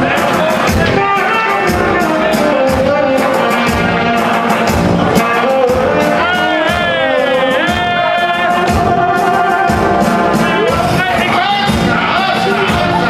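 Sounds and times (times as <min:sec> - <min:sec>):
live band playing: 0:00.0 - 0:13.0
person singing: 0:00.0 - 0:13.0.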